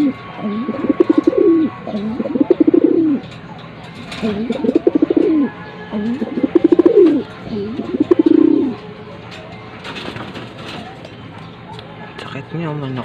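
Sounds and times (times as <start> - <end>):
pigeon cooing: 0.0 - 12.2.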